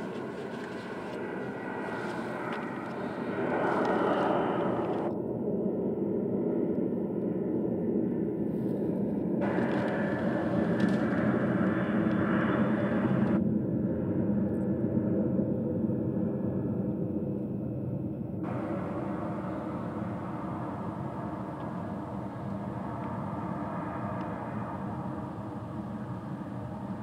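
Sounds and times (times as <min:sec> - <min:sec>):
jet engines rumbling at takeoff: 0:00.0 - 0:27.0.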